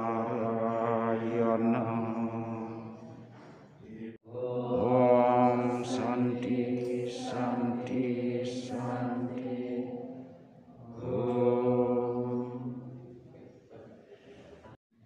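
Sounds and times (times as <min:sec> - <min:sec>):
group chanting in unison: 0:00.0 - 0:14.4.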